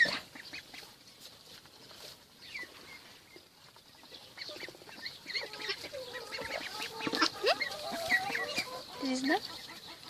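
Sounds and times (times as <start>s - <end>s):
ducks and chickens calling: 0.0s - 10.0s.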